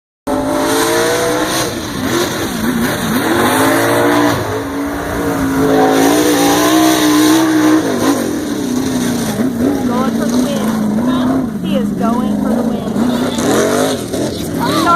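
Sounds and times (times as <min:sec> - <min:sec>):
engine revving at high revs: 0:00.3 - 0:14.9.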